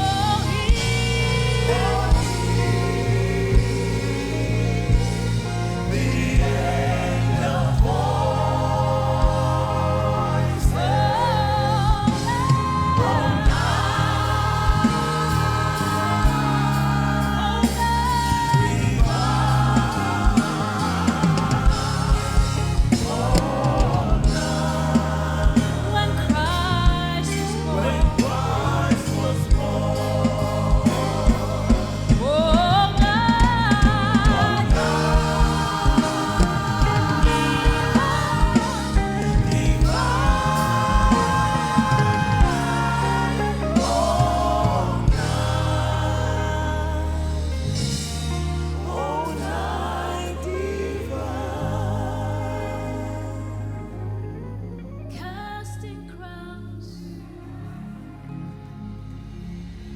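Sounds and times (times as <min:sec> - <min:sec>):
band with bass and drums: 0:00.0 - 0:54.1
voices singing gospel: 0:00.0 - 0:55.8.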